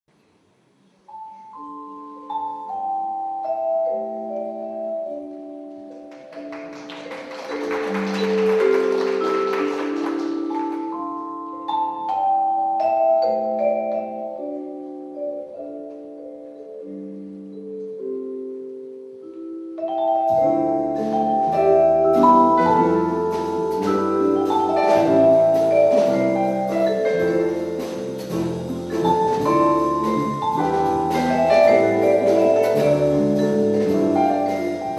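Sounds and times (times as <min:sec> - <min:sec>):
vibraphone playing slow jazz: 0:00.8 - 0:34.9
jazz ensemble with bass: 0:02.3 - 0:16.2, 0:19.8 - 0:34.9.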